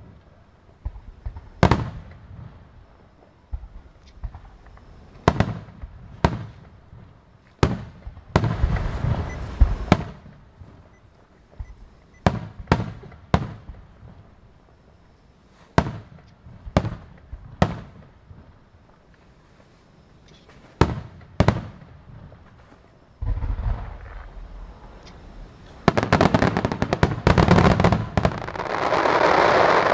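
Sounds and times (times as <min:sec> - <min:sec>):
fireworks bangs with booming echo: 0:00.0 - 0:10.9, 0:11.5 - 0:14.6, 0:15.7 - 0:18.7, 0:20.8 - 0:29.9
crackling fireworks bursts: 0:00.0 - 0:29.9.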